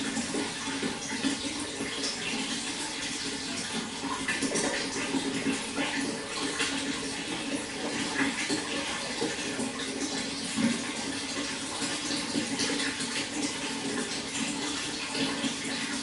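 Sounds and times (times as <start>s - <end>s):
running water splashing: 0.0s - 16.0s.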